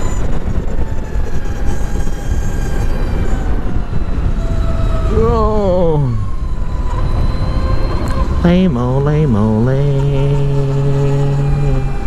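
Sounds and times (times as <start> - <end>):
electric motor whine: 0.0 - 12.0
wind rushing over microphone: 0.0 - 12.0.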